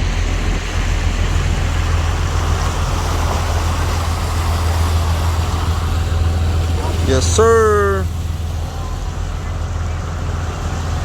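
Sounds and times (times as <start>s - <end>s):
boat engines humming: 0.0s - 11.0s.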